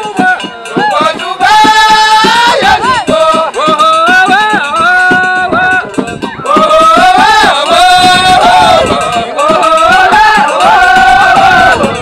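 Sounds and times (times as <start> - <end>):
man singing long sliding notes: 0.0 - 12.0.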